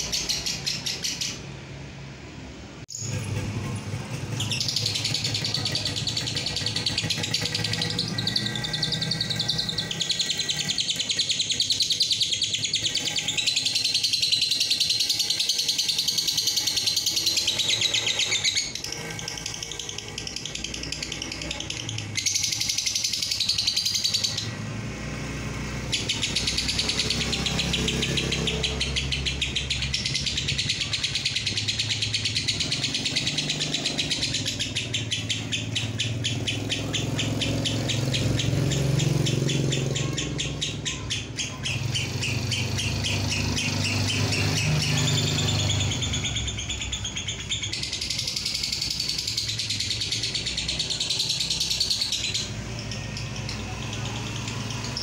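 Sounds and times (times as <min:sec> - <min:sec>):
lovebird chattering song: 0:00.0 - 0:01.6, 0:02.9 - 0:55.0.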